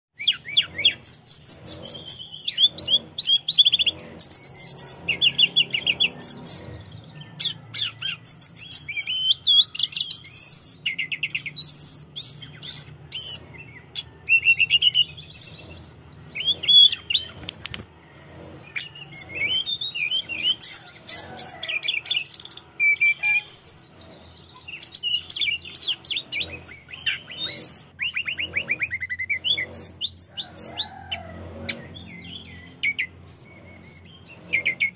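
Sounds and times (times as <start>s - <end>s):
bird singing trills and warbles: 0.2s - 34.9s.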